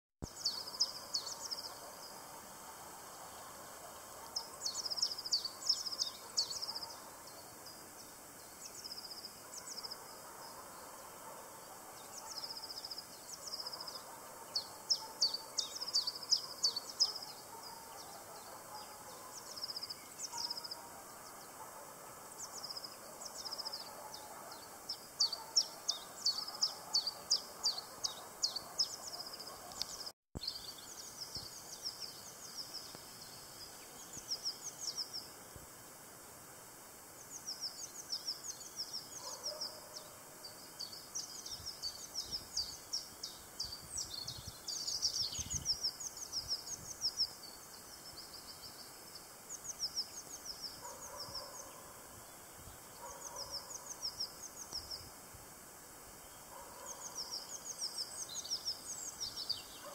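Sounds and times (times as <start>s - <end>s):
songbird chirping: 0.2s - 35.4s, 37.0s - 59.9s
outdoor background hiss: 0.2s - 59.9s.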